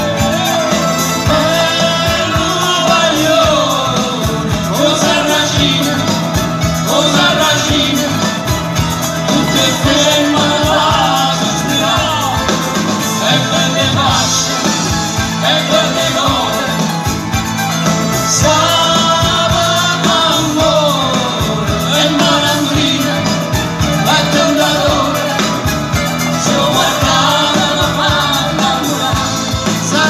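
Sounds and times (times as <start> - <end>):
person singing: 0.0 - 17.1, 18.1 - 30.0
drums and percussion: 0.0 - 30.0
guitars: 0.0 - 30.0.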